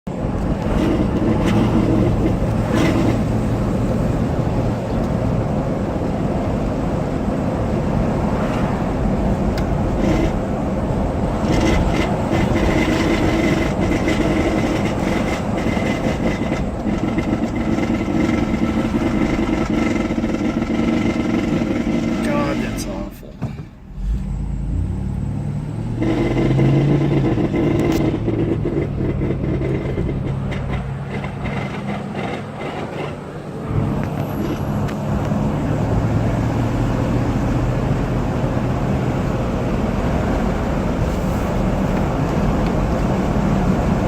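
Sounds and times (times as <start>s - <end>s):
road and drivetrain noise: 0.0s - 44.0s
loud vehicle hum or whine: 0.1s - 44.0s.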